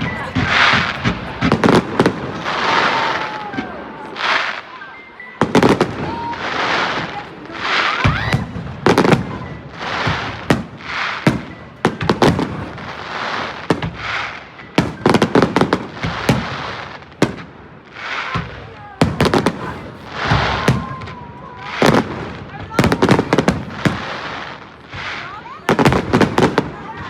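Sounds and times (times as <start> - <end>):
fireworks bangs: 0.0 - 27.0
fireworks hissing and crackling: 0.0 - 27.0.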